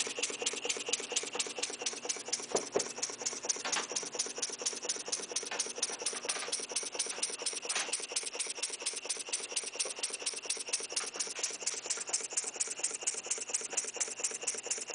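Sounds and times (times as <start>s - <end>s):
model steam engine puffing: 0.0s - 14.9s.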